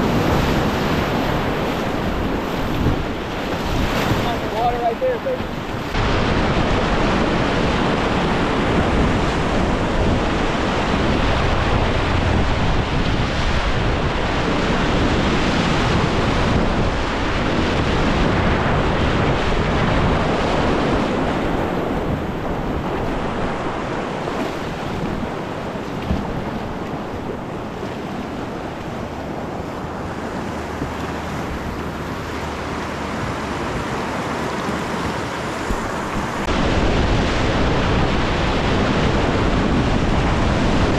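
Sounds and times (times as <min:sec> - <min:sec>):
whitewater rapids rushing: 0:00.0 - 0:40.9
wind buffeting microphone: 0:00.0 - 0:40.9.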